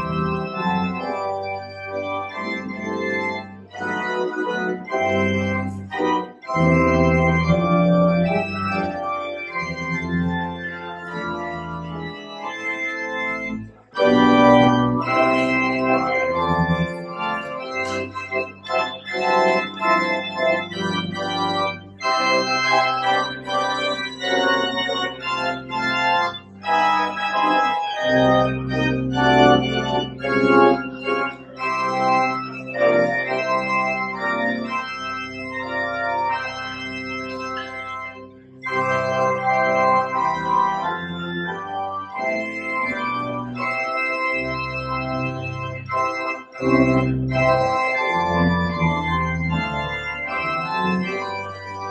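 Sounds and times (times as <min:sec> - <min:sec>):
organ playing chords: 0:00.0 - 0:51.9.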